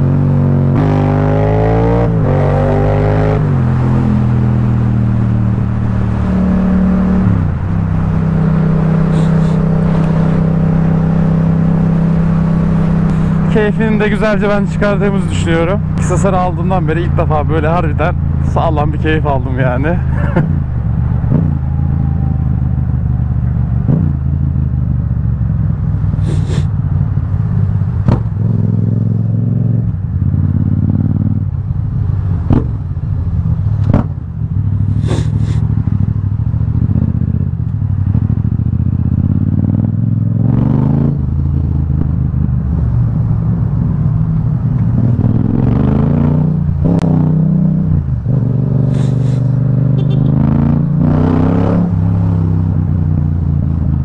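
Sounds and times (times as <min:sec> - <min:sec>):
motorcycle engine accelerating: 0:00.0 - 0:16.2, 0:20.0 - 0:54.0.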